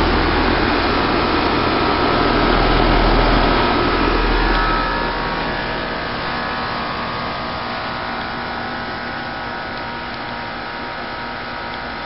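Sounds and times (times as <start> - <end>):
compressor hum: 0.0 - 12.0
heat pump fan rushing: 0.0 - 12.0.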